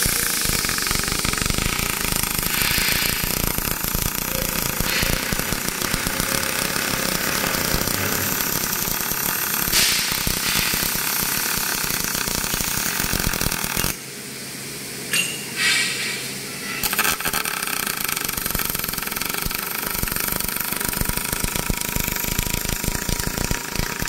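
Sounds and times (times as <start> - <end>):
welding arc crackling buzz: 0.0 - 14.1, 16.6 - 24.0.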